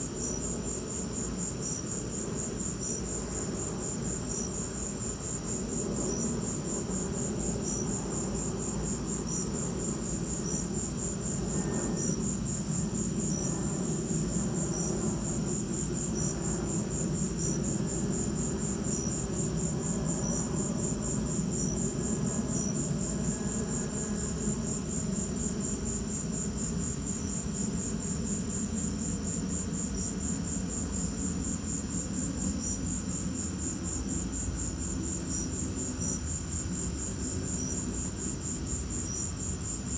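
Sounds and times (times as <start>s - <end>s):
cricket chirp: 0.0s - 39.9s
crickets trilling: 0.0s - 39.9s.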